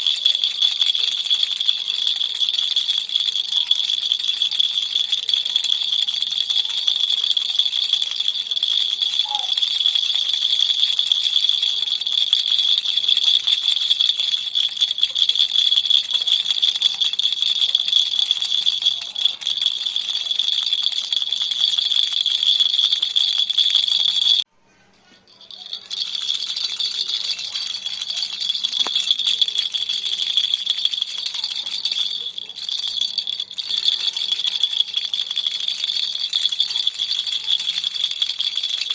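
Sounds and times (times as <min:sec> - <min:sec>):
toy rattle shaking: 0:00.0 - 0:38.9.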